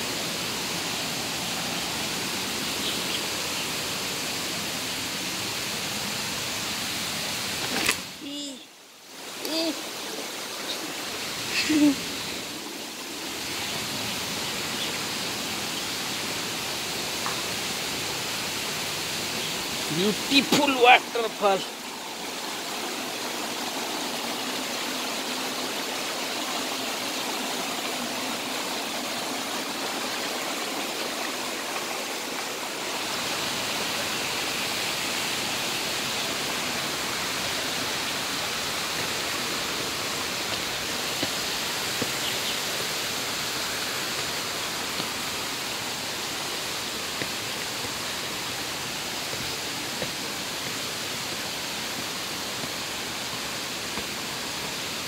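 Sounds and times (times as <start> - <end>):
stream and waterfall rushing: 0.0 - 55.0.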